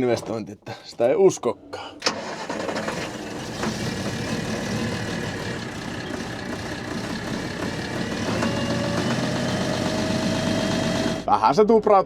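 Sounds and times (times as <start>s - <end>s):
diesel engine idling: 2.1s - 11.9s.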